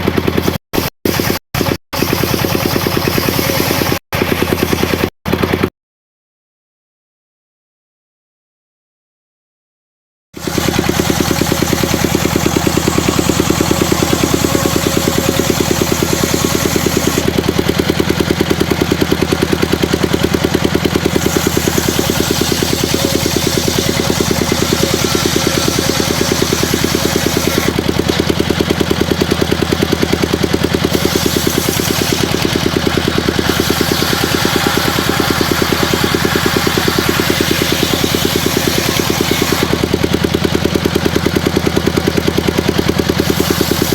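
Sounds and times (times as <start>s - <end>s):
sawmill engine running: 0.0s - 5.7s, 10.4s - 43.9s.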